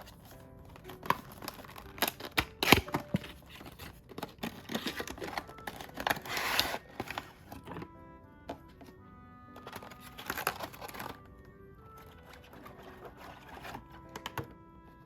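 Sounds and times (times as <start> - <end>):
packaging tearing: 0.0 - 7.9, 9.4 - 14.5
packaging clicks and taps: 0.0 - 14.7.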